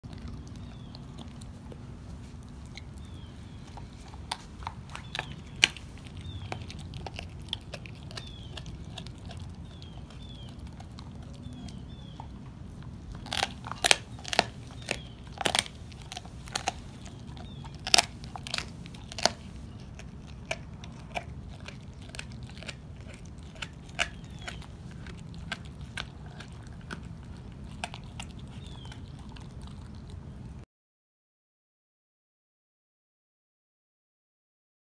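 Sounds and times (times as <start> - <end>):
dog crunching bones: 0.0 - 30.6.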